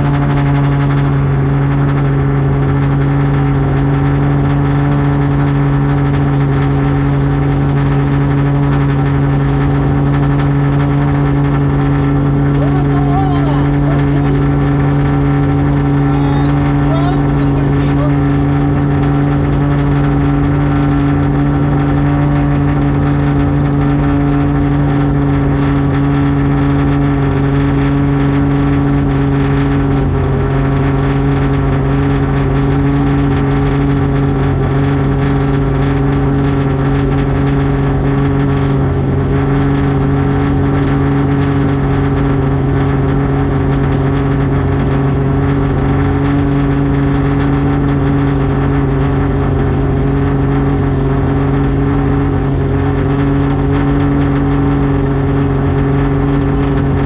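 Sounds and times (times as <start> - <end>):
race car engine idling: 0.0 - 57.0.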